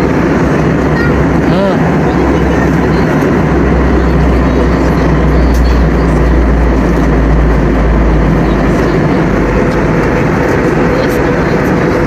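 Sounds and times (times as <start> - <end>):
jet engines roaring in cabin: 0.0 - 12.0.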